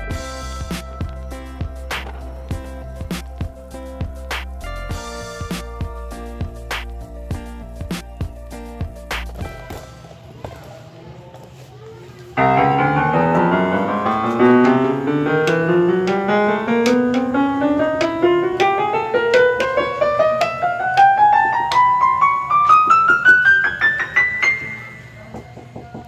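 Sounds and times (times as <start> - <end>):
electronic keyboard piano notes: 0.0 - 9.7, 12.4 - 25.6.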